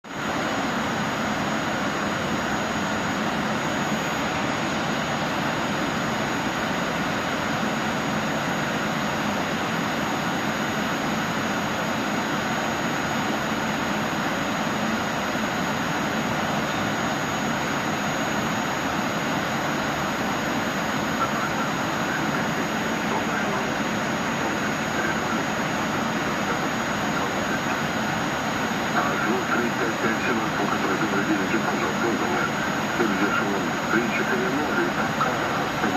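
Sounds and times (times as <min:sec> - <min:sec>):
jet engine and airflow rush: 0:00.0 - 0:35.9
faint thin high whine: 0:00.1 - 0:35.9.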